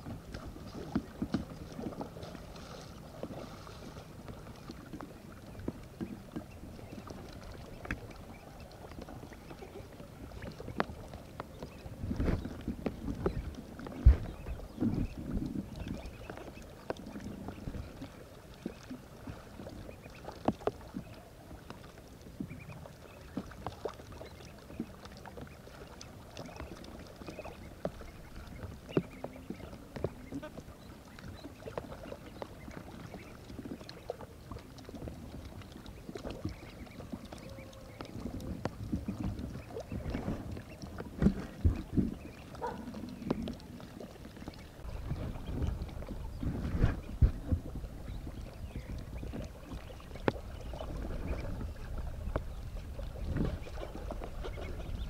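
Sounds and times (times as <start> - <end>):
water sloshing and splashing: 0.0 - 55.0.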